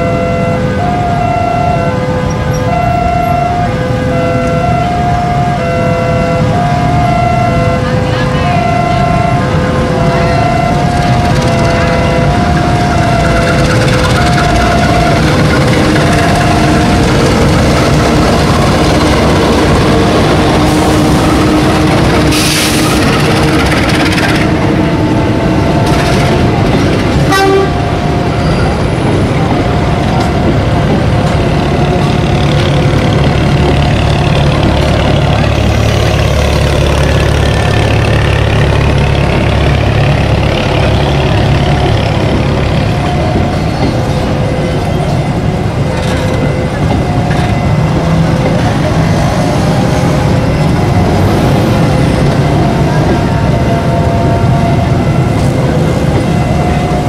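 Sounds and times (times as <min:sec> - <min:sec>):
crossing warning signal tone: 0:00.0 - 0:57.0
train rumbling over rails: 0:00.0 - 0:57.0.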